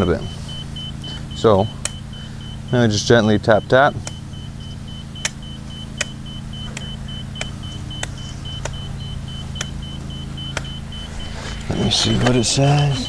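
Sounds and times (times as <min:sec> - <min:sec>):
fast high-pitched beeping: 0:00.0 - 0:13.0
low machine hum: 0:00.0 - 0:13.0.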